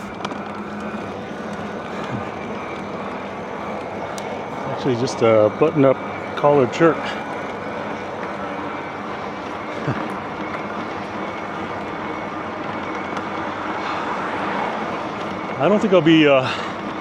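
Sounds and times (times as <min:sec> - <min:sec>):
bike tyre noise: 0:00.0 - 0:17.0.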